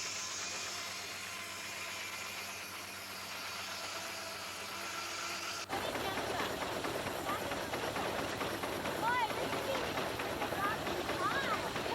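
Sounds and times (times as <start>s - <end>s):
steam sawmill hissing and running: 0.0s - 11.9s.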